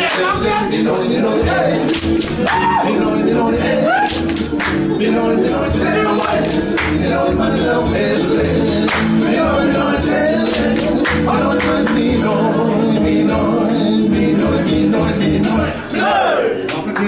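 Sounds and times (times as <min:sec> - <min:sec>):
pulsing bass beat: 0:00.0 - 0:15.7
guitar: 0:00.0 - 0:17.0.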